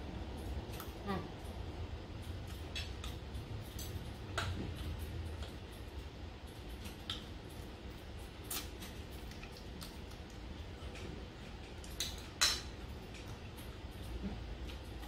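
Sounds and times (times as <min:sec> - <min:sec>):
chewing: 0:02.2 - 0:15.0.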